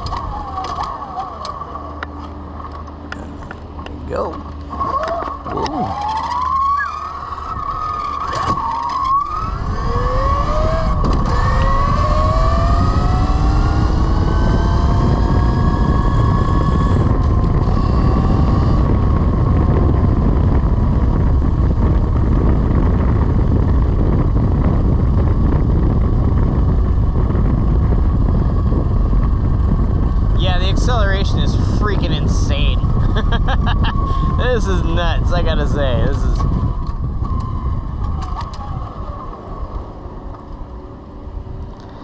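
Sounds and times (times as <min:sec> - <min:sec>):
electric motorcycle motor whine: 0:00.0 - 0:42.0
wind rush on microphone: 0:02.4 - 0:42.0.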